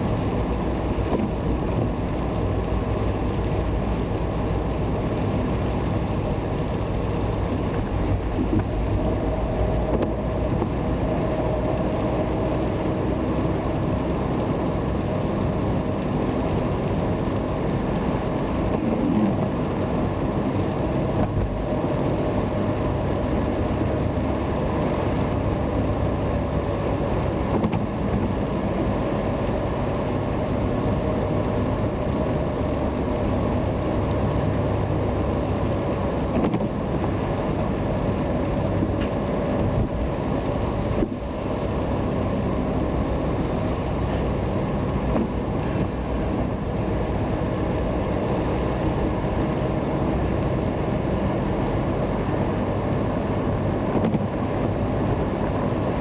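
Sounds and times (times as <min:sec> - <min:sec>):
road and rain noise: 0:00.0 - 0:56.0
vehicle engine: 0:00.0 - 0:56.0.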